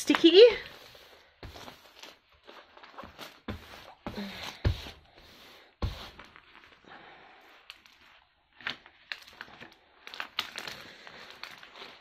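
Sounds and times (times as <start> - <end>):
paper sheet crinkling and crackling: 0.0 - 12.0.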